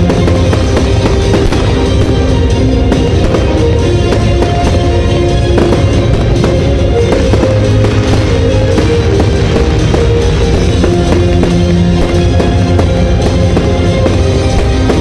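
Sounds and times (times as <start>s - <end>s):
fireworks bursting and crackling: 0.0s - 15.0s
loud music with drums: 0.0s - 15.0s.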